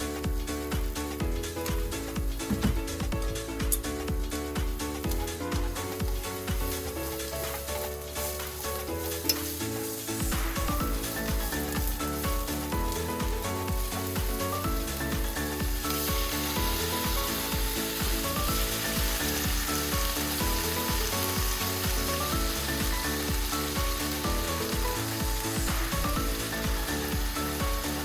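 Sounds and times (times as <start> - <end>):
background music with steady beat: 0.0 - 28.0
food sizzling in a frying pan: 3.4 - 28.0.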